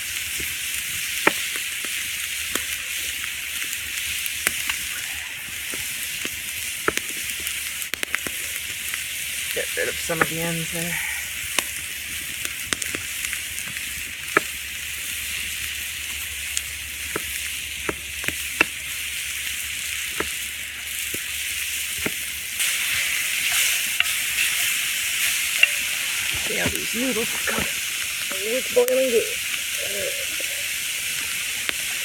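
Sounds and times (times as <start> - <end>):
food sizzling over fire: 0.0 - 32.0
fire pops and clicks: 0.1 - 32.0.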